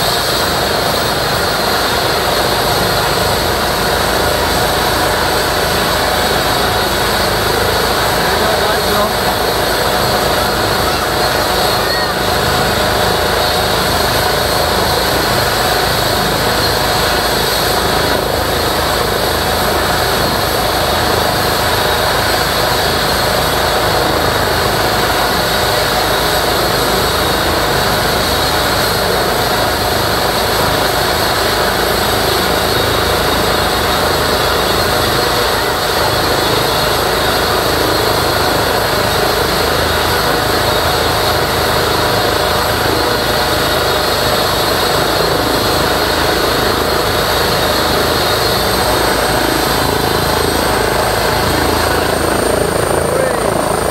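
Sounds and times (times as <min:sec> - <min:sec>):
helicopter rotor noise: 0:00.0 - 0:53.9
helicopter turbine whine: 0:00.0 - 0:53.9.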